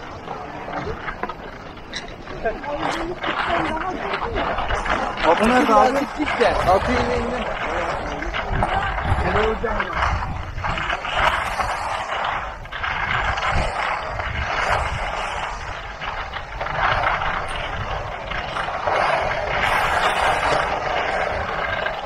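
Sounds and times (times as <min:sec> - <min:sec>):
skis scraping over snow: 0:00.0 - 0:22.0.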